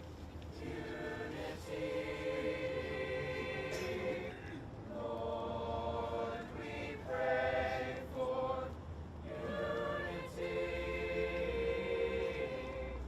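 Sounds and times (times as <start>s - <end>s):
choir singing: 0.6s - 13.0s.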